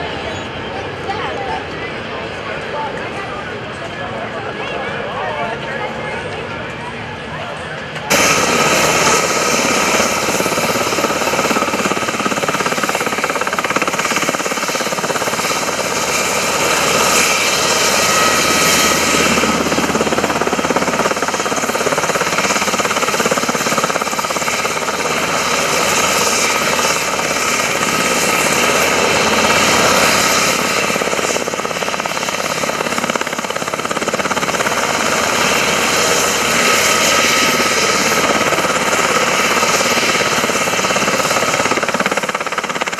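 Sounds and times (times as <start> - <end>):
helicopter rotor chop: 0.0 - 42.9
turbine engine whine: 0.0 - 42.9.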